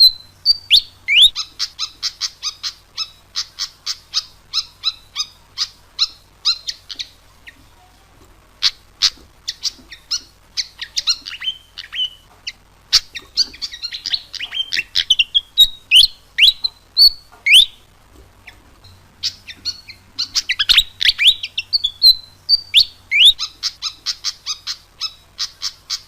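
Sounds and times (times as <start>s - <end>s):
bird chirping song: 0.0s - 7.7s, 8.6s - 26.0s.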